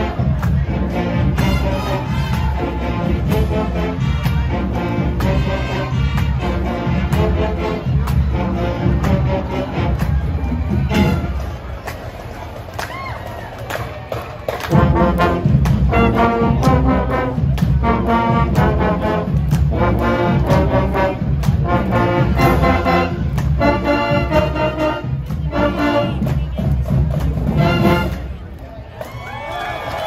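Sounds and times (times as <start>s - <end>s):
steady drum beat: 0.0s - 11.4s, 14.7s - 28.3s
marching band brass playing: 0.0s - 12.2s, 14.5s - 28.5s.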